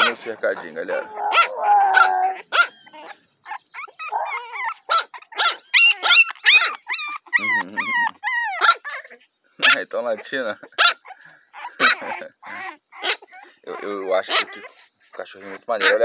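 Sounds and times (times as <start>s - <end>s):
puppies yapping and whining: 0.0s - 16.0s.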